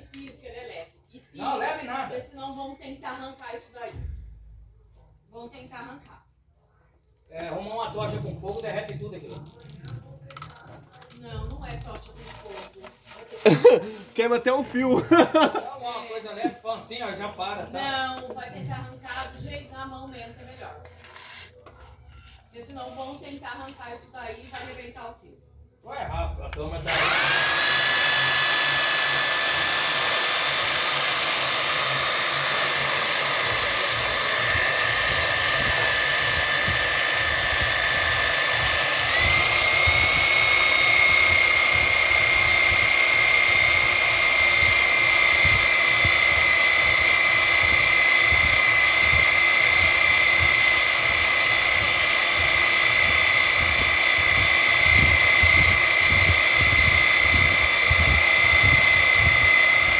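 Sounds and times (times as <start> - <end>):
small motor whining: 7.9 - 16.4, 17.4 - 24.9, 26.6 - 59.9.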